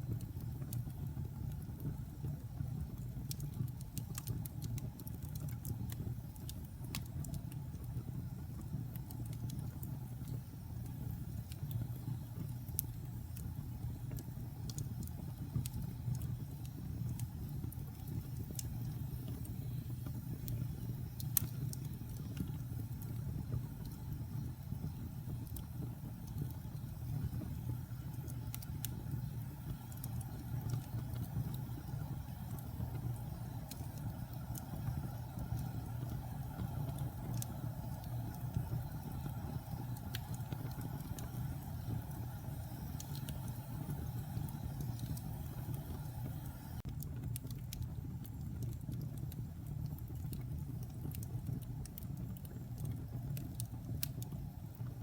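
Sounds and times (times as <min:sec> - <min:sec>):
burning wood crackling and popping: 0:00.0 - 0:55.0
flames rumbling: 0:00.0 - 0:55.0.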